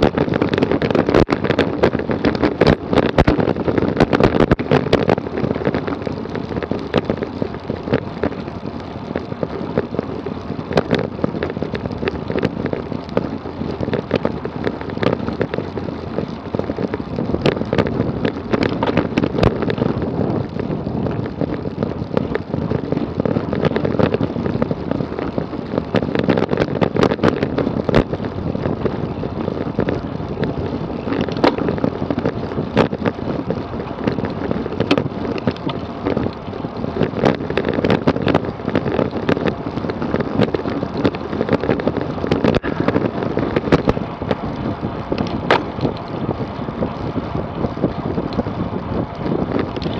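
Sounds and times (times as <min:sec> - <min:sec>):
bike clicks and rattles: 0:00.0 - 0:49.9
tyre and road noise: 0:00.0 - 0:49.9
wind rush on microphone: 0:00.0 - 0:49.9.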